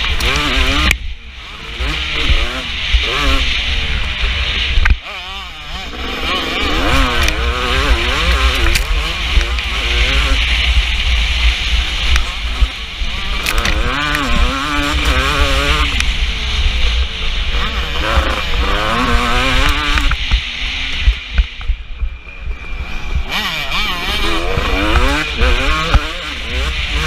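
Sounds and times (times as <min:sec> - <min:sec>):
motocross engine revving: 0:00.0 - 0:27.0
heavy low rumble: 0:00.7 - 0:27.0.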